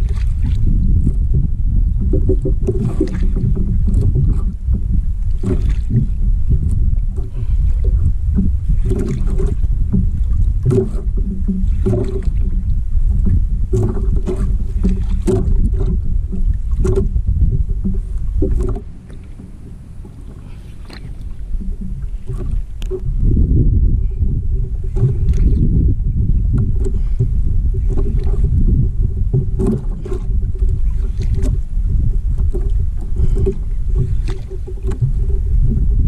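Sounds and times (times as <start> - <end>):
water slapping against hull: 0.0 - 36.0
wind buffeting microphone: 0.0 - 36.0.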